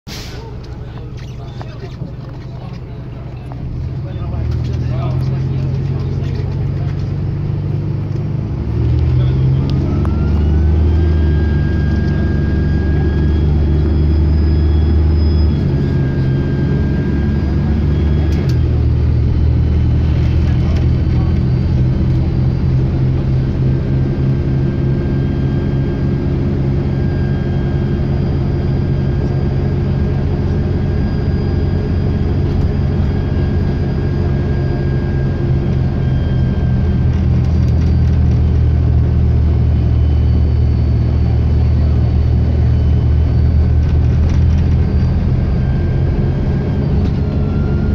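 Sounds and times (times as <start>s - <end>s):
diesel bus engine running: 0.1s - 47.9s
turbocharger whistle: 8.8s - 47.9s.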